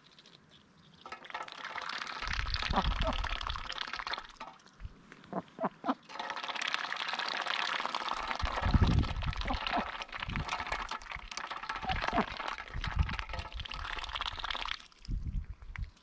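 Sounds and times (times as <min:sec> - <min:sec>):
ducks dabbling in water: 0:00.0 - 0:16.0.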